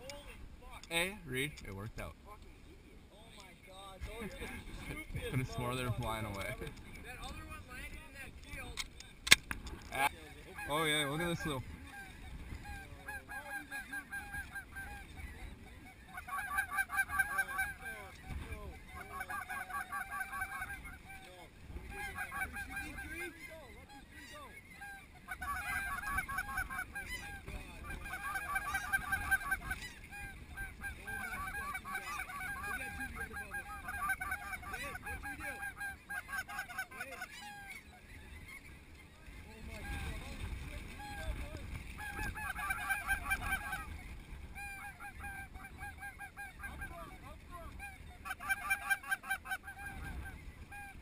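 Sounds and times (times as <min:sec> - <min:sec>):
geese yelping calls: 0:09.9 - 0:51.0.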